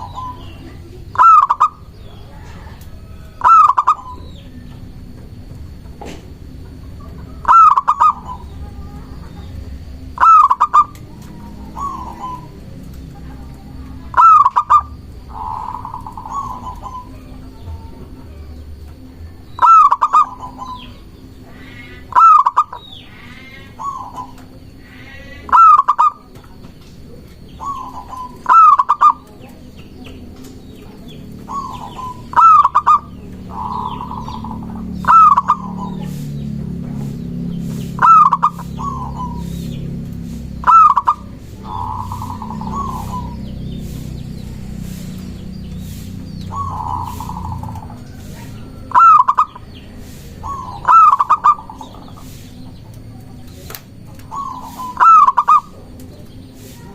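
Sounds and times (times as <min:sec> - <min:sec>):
birds chirping: 0:00.0 - 0:56.9
dove cooing: 0:00.0 - 0:56.9.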